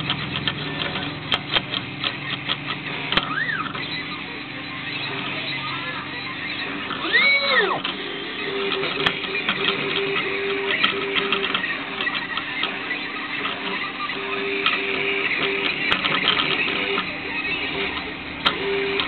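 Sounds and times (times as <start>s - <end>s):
cutting plotter motors whirring: 0.0s - 19.0s.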